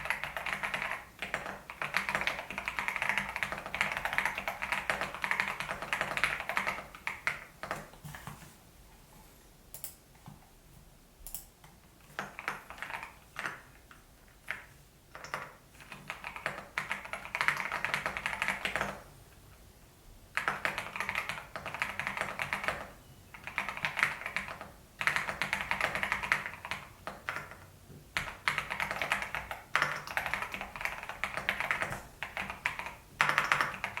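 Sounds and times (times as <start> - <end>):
mechanical keyboard typing: 0.0 - 7.9, 12.0 - 19.0, 20.4 - 34.0.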